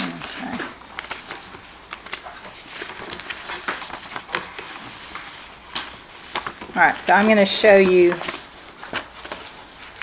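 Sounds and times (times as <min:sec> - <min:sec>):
paper sheets rustling: 0:00.0 - 0:10.0.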